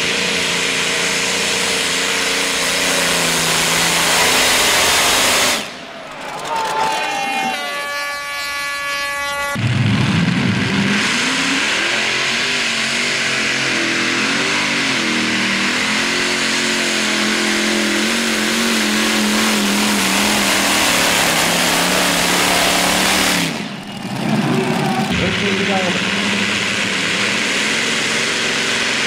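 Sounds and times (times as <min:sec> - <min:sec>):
tractor engine roaring under load: 0:00.0 - 0:29.0
steady high whine: 0:03.2 - 0:29.0.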